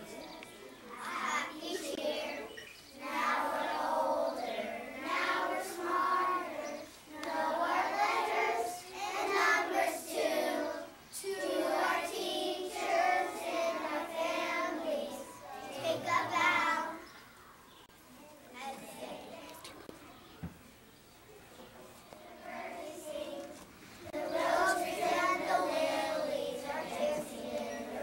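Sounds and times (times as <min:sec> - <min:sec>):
children singing in unison: 0:00.0 - 0:17.1, 0:22.2 - 0:28.0.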